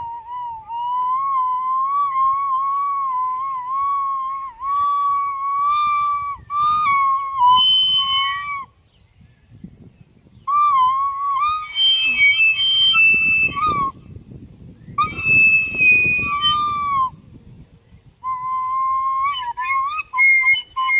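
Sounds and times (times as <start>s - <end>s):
flute playing long high notes: 0.0s - 8.7s, 10.5s - 14.0s, 15.0s - 17.2s, 18.2s - 20.9s.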